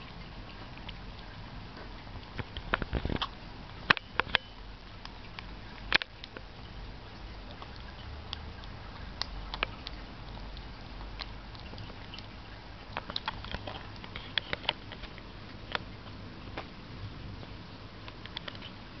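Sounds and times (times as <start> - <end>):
kitten lapping milk: 0.0 - 19.0.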